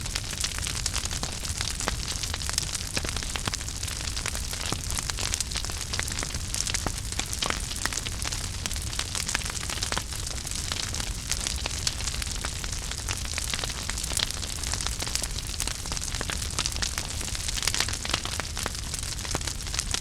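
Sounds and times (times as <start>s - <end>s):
fire crackles and pops: 0.0s - 20.0s
fireplace fire rumble and hiss: 0.0s - 20.0s.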